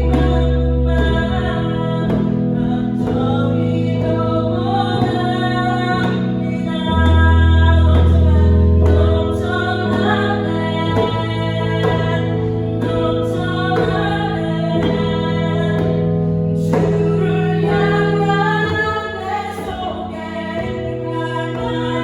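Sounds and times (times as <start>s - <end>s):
keyboard chords: 0.0s - 22.0s
person singing: 0.0s - 22.0s.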